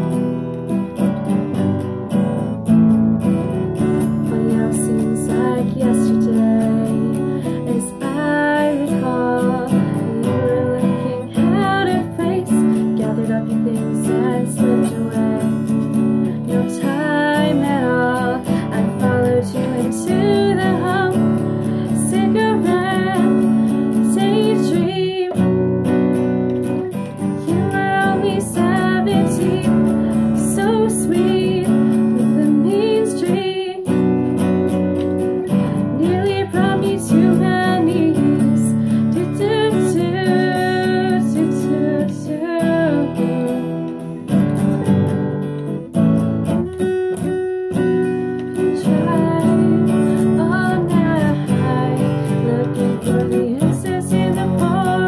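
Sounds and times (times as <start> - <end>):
acoustic guitar strumming: 0.0 - 55.0
woman singing: 0.0 - 55.0.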